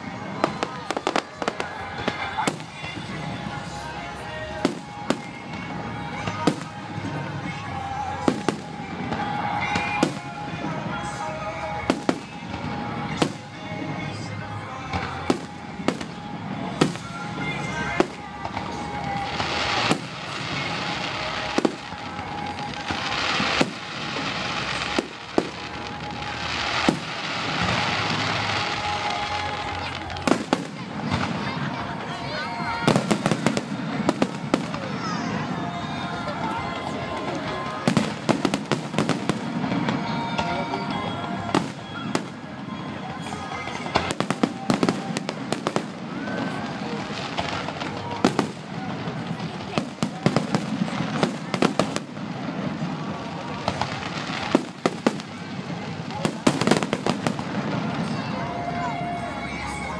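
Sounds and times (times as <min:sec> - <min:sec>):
background noise: 0:00.0 - 0:59.9.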